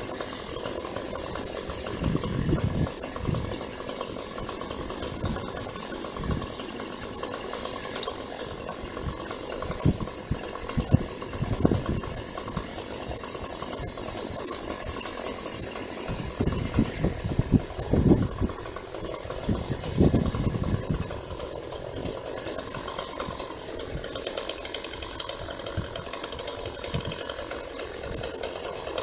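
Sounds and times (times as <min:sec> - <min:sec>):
engine idling: 0:00.0 - 0:29.0.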